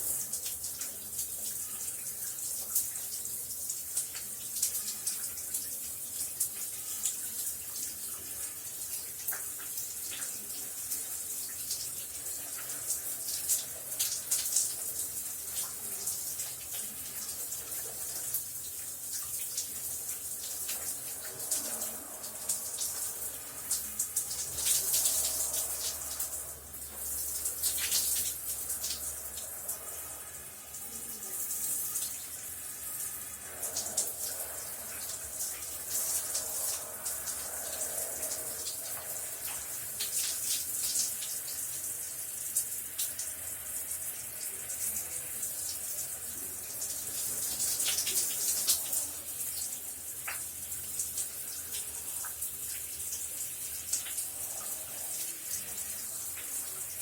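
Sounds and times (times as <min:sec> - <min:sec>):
shower water spraying: 0:00.0 - 0:57.0.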